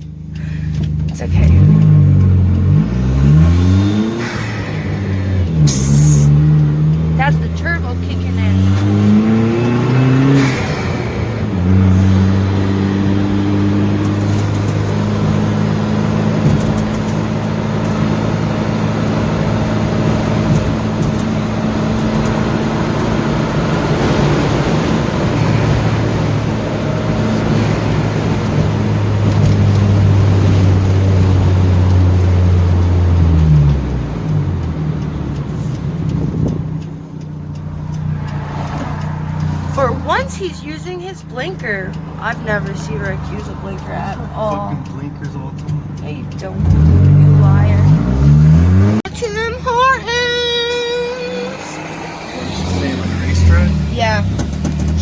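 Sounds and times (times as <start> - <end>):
car engine from inside cabin: 0.0 - 55.0
road and tyre noise: 0.0 - 55.0.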